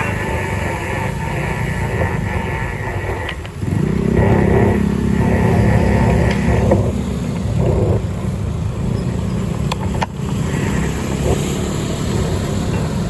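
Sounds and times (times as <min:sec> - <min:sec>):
vehicle rumbling on the move: 0:00.0 - 0:13.0.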